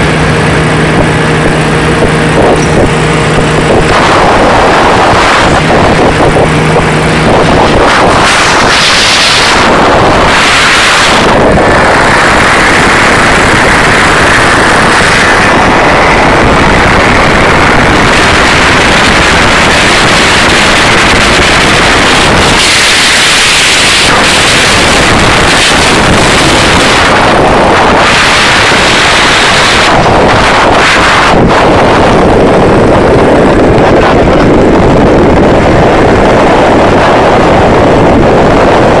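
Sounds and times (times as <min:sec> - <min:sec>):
aircraft engine running: 0:00.0 - 0:39.0
wind rushing over microphone: 0:00.0 - 0:39.0.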